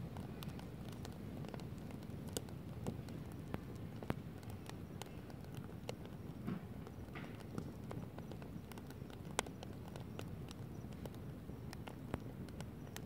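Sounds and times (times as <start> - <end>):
burning logs popping: 0.0 - 13.0
campfire crackling: 0.0 - 13.0
low noise of flames: 0.0 - 13.0.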